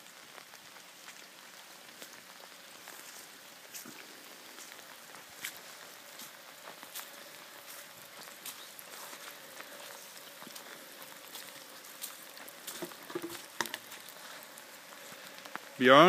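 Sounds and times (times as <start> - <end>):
rain falling on lawn: 0.0 - 16.0.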